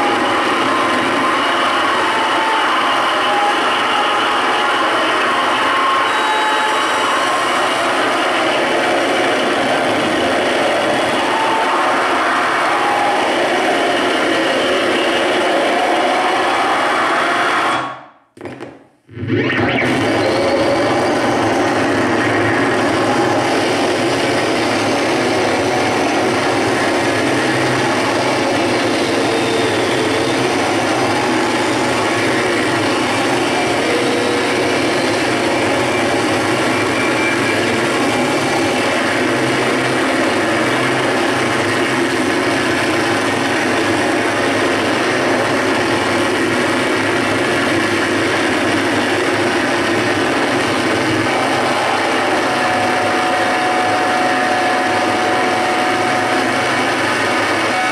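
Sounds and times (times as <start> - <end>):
harsh distorted noise: 0.0 - 57.9.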